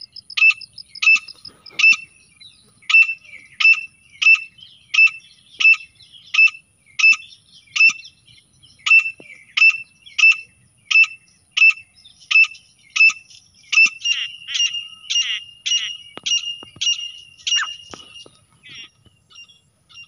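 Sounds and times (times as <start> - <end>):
bird calling shrill notes: 2.9 - 8.2, 8.8 - 20.0.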